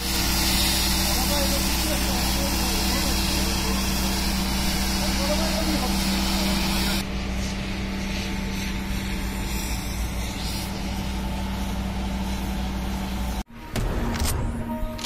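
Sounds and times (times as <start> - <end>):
pressure hose hissing: 0.0 - 13.4.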